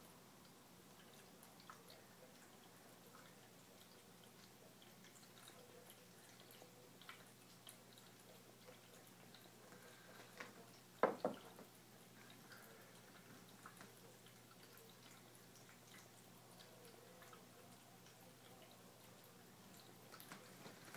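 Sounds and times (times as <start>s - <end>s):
water fountain trickling: 0.0s - 20.9s
cat lapping water: 0.4s - 20.6s.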